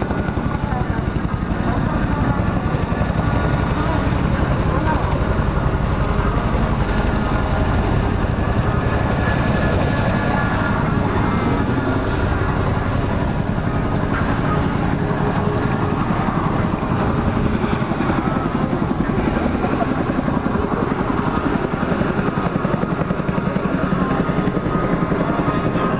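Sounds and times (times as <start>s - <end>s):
helicopter flying past: 0.0s - 25.9s.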